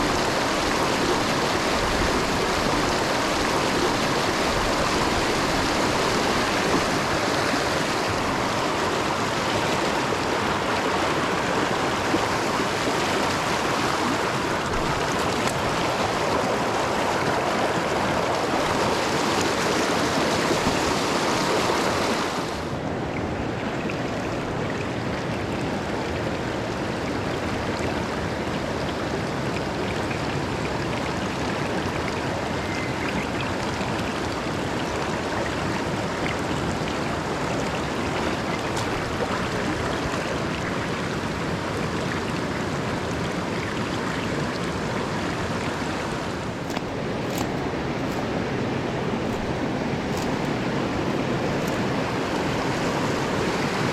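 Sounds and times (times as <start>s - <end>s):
stream running water: 0.0s - 53.9s.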